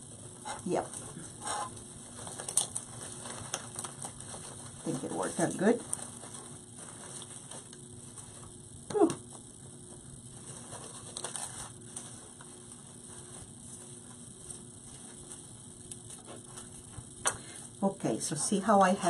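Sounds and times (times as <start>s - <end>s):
artificial greenery rustling: 0.0s - 17.2s.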